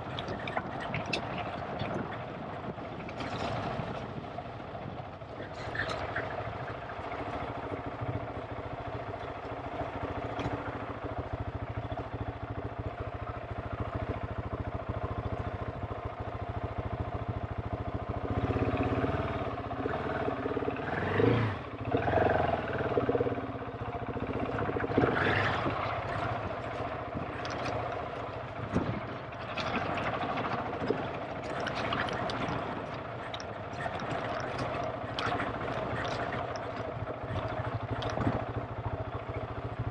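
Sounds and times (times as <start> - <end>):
knocks and clatter over rough ground: 0.0 - 39.9
motorcycle engine revving: 5.6 - 39.9.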